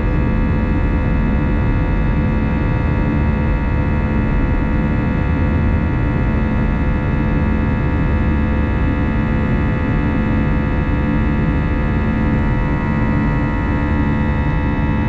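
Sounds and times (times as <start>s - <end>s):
aircraft cabin roar: 0.0s - 15.0s
constant tonal hum: 0.0s - 15.0s.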